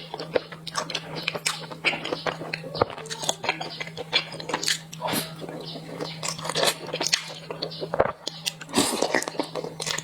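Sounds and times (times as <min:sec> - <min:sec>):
faint low hum: 0:00.0 - 0:10.0
wet chewing and smacking: 0:00.0 - 0:10.0.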